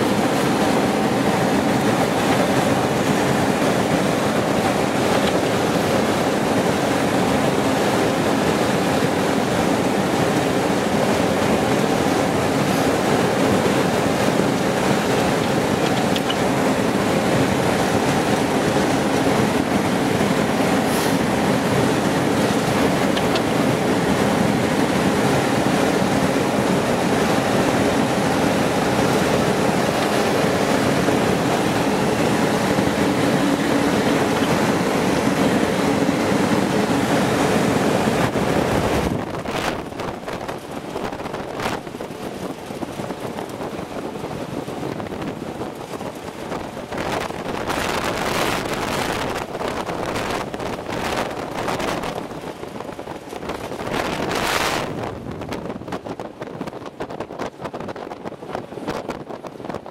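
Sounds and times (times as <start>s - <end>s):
armoured vehicle engine rumble: 0.0s - 59.8s.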